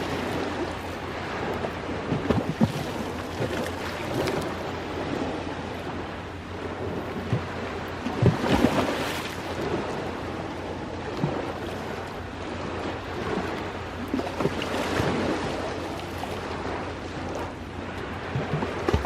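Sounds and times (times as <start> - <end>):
sea waves washing onto shore: 0.0 - 19.0.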